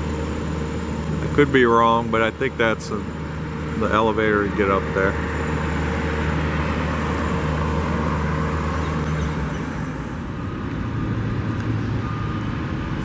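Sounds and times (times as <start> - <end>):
traffic din: 0.0 - 13.0
vehicle engine hum: 0.0 - 13.0.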